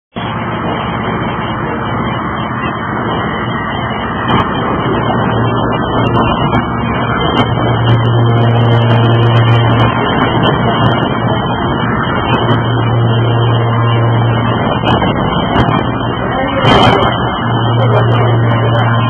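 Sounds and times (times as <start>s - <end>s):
low hum: 0.1s - 19.0s.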